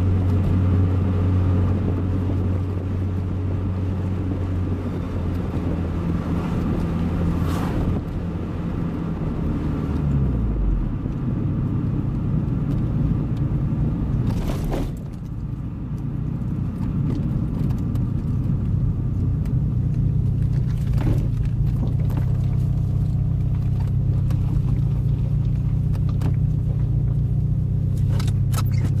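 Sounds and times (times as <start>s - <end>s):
car engine droning: 0.0s - 29.0s
tyre and road rumble: 0.0s - 29.0s.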